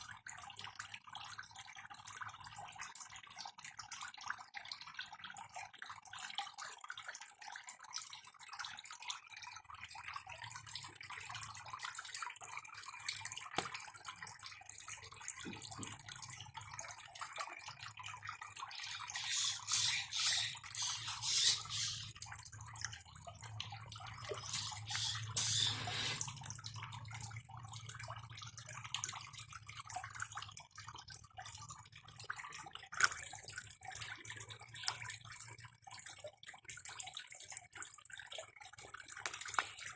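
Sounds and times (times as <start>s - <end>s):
water trickling and fizzing: 0.0s - 39.9s.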